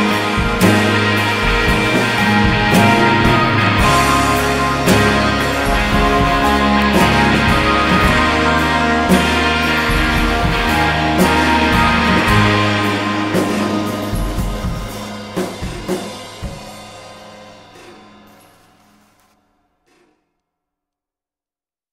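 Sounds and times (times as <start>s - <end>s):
background music with drums: 0.0s - 19.2s.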